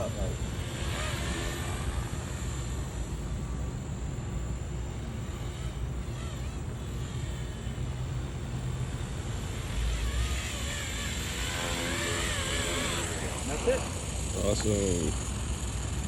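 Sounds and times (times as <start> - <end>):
rc helicopter rotor whirring: 0.0 - 16.0.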